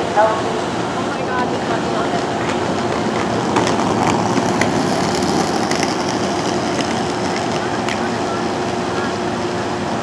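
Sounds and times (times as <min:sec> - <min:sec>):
train coach wheels rumbling: 0:00.0 - 0:10.0.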